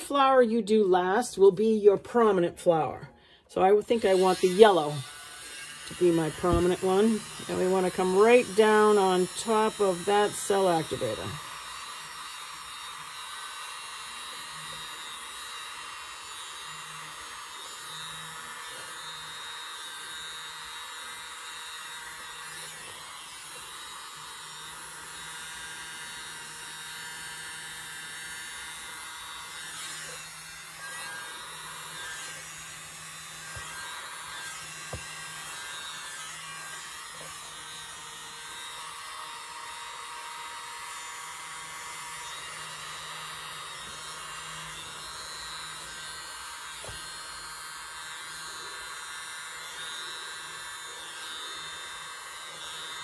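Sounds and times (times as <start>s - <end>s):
small leaf blower hissing: 3.1s - 53.0s.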